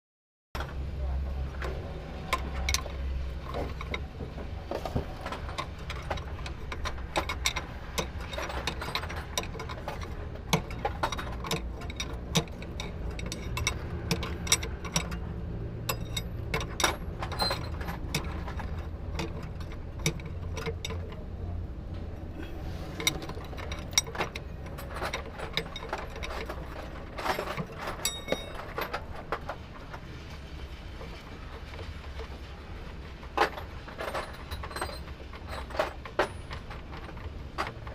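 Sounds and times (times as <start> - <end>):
hand tools clicking and ratcheting: 1.5 - 37.9.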